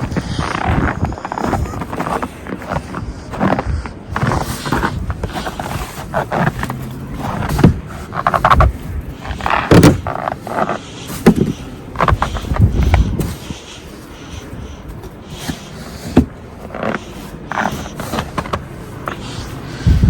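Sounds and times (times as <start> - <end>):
blizzard wind gusting: 0.0 - 16.6, 18.9 - 20.0.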